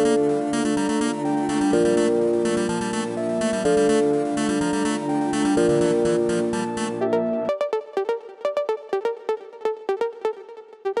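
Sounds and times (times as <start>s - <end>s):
electronic music with clicky synth: 0.0s - 11.0s.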